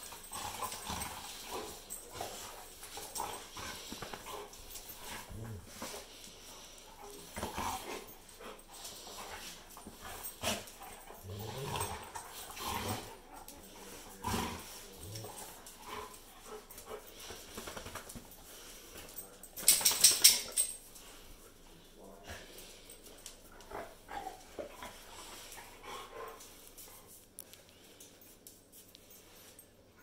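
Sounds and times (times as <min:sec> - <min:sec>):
dogs play growling: 0:00.0 - 0:29.7
dogs scuffling on tile floor: 0:00.0 - 0:30.0.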